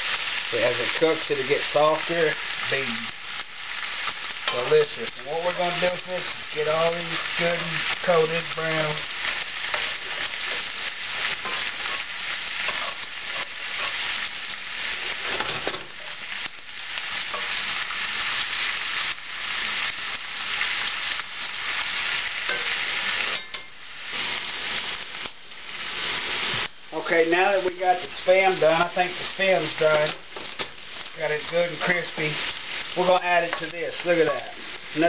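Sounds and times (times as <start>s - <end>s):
meat sizzling in a skillet: 0.0s - 35.0s.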